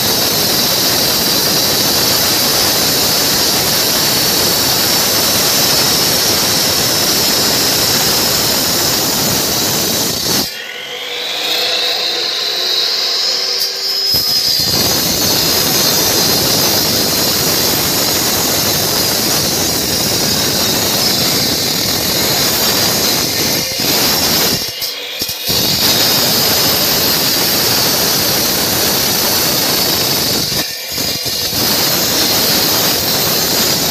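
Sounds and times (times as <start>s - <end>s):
concrete saw grinding: 0.0s - 33.9s
saw blade whine: 0.0s - 33.9s.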